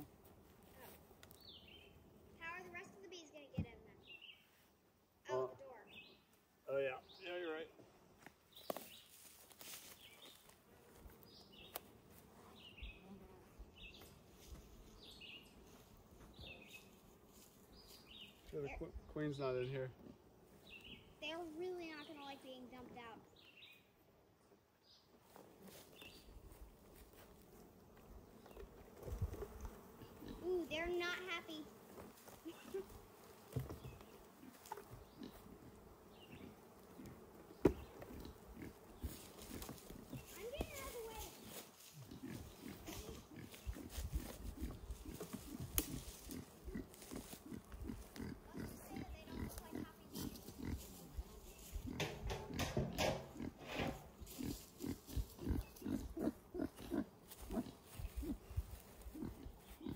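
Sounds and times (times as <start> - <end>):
honeybees buzzing: 8.6 - 23.5, 25.2 - 59.9.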